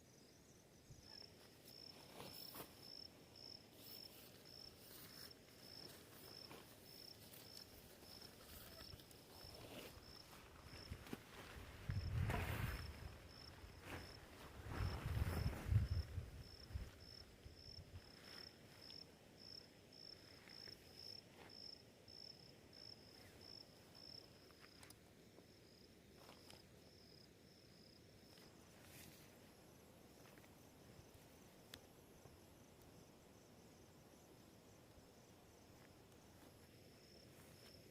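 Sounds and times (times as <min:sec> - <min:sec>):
night insects chirping: 0:00.0 - 0:37.9.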